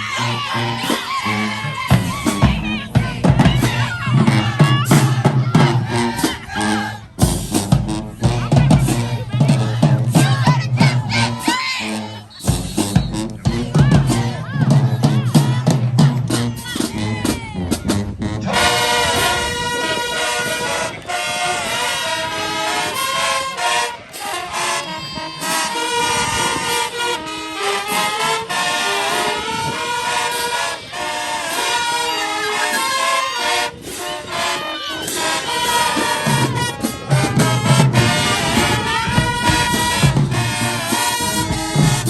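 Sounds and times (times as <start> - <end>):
brass chords: 0.0 - 42.0
drumline hits: 0.0 - 42.0.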